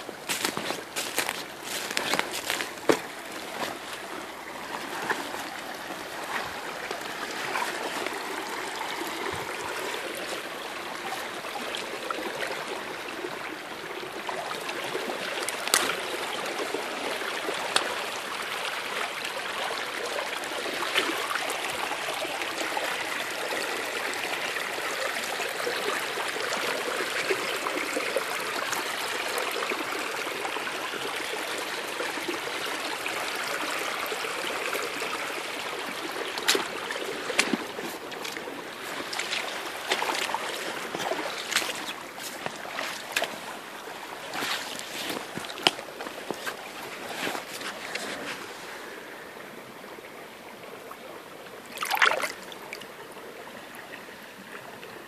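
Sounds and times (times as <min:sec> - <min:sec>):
water rushing over gravel: 0:00.0 - 0:48.8, 0:51.7 - 0:52.5.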